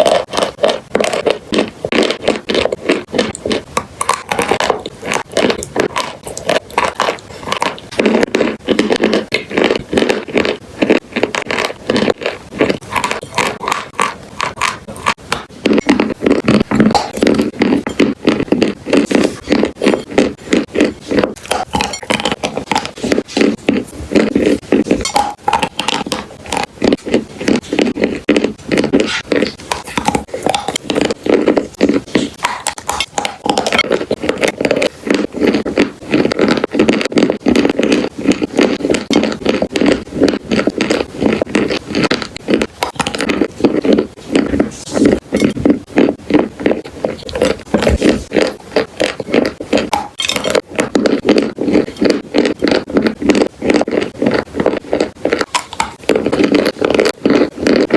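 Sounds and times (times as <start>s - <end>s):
chalk and clay crunching: 0.0s - 57.9s.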